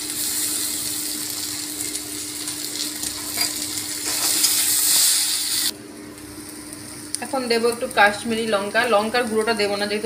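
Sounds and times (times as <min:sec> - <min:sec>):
potatoes and onion sizzling in oil: 0:00.0 - 0:10.0.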